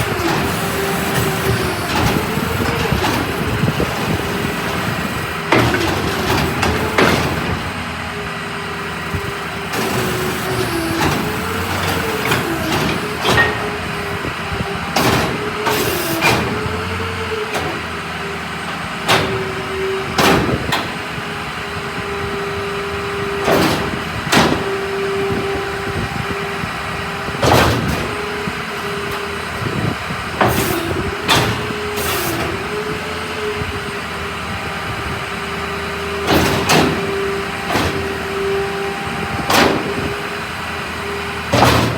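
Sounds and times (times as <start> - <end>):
garbage truck engine whine: 0.0 - 41.9.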